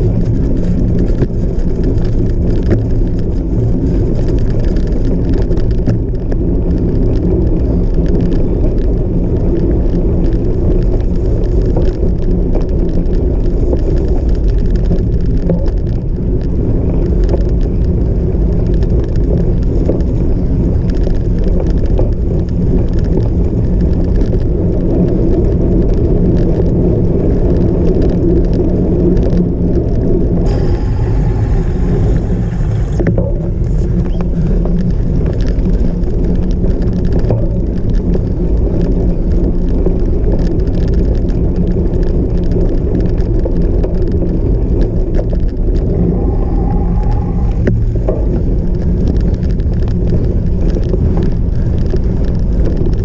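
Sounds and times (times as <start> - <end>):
bike tyres rumbling over rough ground: 0.0 - 53.0.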